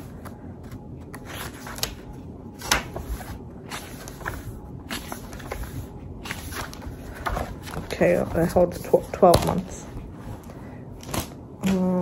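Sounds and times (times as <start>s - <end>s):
paper pages rustling: 0.0s - 11.4s.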